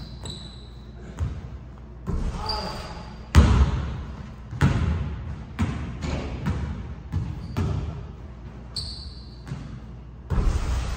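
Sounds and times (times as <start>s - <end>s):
sneaker squeak: 0.0s - 3.5s, 4.5s - 10.0s
basketball bouncing on gym floor: 0.0s - 10.8s.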